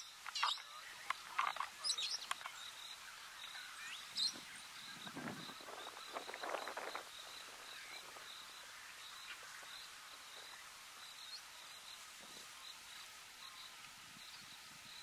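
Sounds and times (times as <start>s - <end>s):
insect chirping: 0.0s - 15.0s
rustle in grass: 0.0s - 15.0s.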